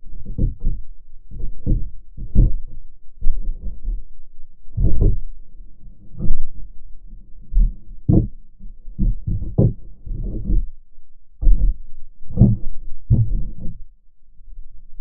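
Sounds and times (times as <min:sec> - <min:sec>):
muffled deep underwater thuds: 0:00.0 - 0:14.0.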